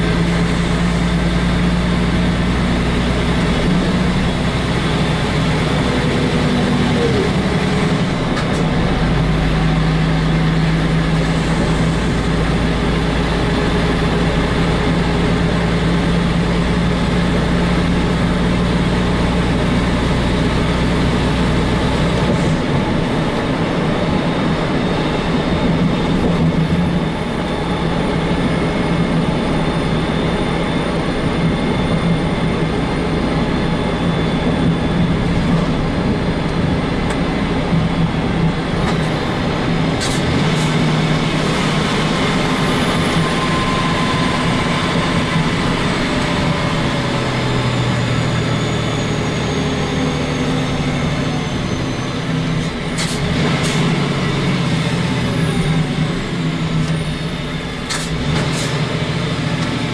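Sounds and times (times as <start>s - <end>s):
truck diesel engine running: 0.0s - 59.9s
tyre and road noise: 0.0s - 59.9s.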